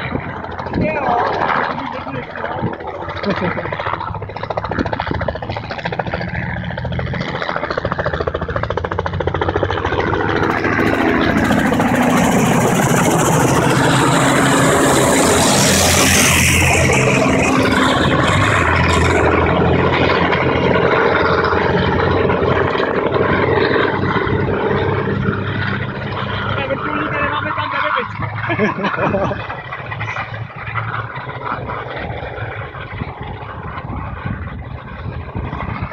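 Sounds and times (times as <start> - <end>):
diesel engine running: 0.0 - 35.9
falling whine: 0.0 - 35.9
helicopter rotor: 0.0 - 35.9.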